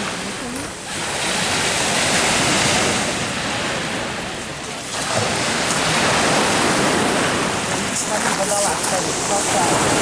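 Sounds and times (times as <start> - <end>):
sea surf washing onto shore: 0.0 - 10.0.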